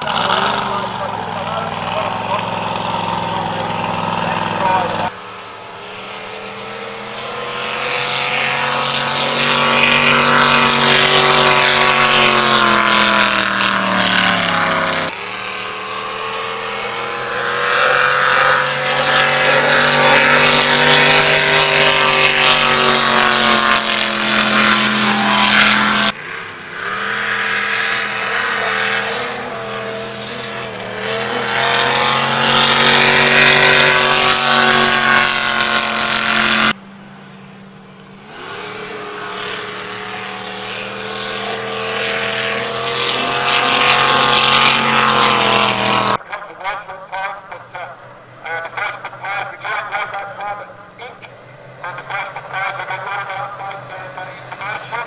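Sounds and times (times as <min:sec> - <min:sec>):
drag boat engines running hard: 0:00.0 - 0:05.8, 0:07.1 - 0:46.4, 0:47.1 - 0:55.0.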